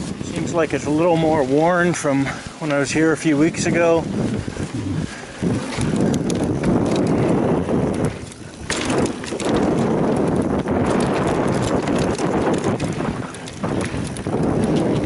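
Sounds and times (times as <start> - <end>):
bike clattering and rattling: 0.0 - 15.0
bike tyres rumbling over rocks: 0.0 - 15.0.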